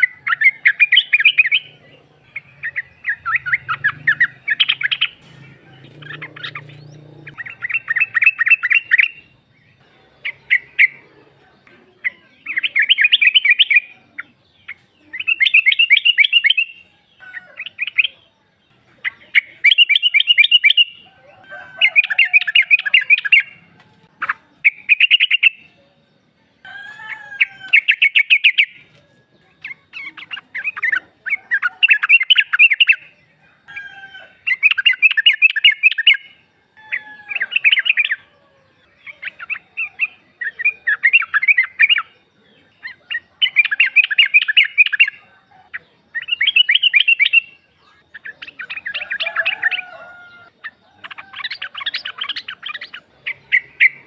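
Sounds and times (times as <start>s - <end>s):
bird chattering call: 0.0s - 18.2s, 18.9s - 25.8s, 26.7s - 33.0s, 34.4s - 54.0s.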